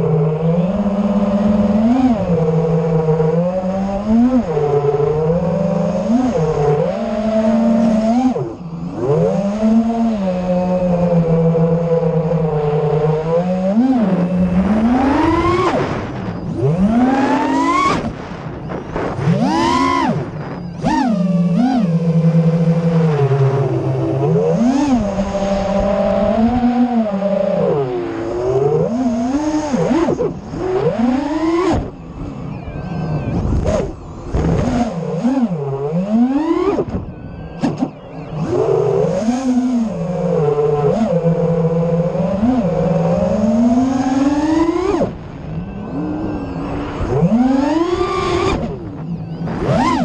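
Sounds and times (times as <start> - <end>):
drone motors and propellers whining: 0.0 - 50.0.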